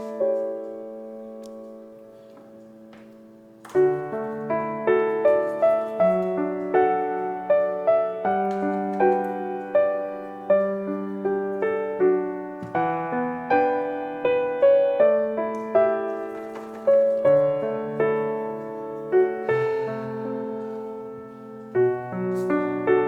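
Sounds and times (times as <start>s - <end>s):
gentle piano tune: 0.0s - 23.0s.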